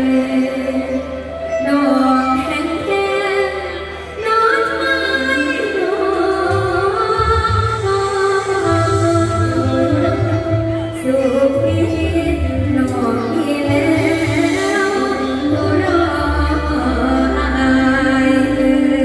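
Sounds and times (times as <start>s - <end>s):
live band music over a pa: 0.0s - 19.0s
person singing: 0.0s - 19.0s.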